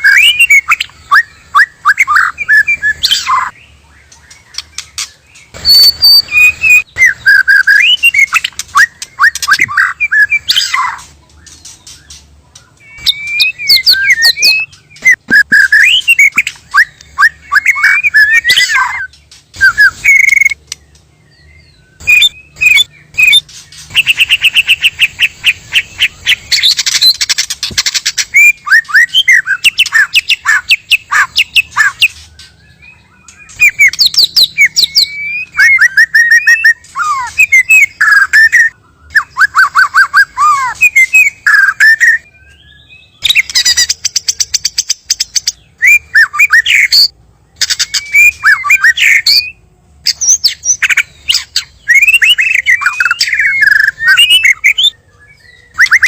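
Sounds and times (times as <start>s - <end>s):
bird whistling song: 0.0s - 56.0s.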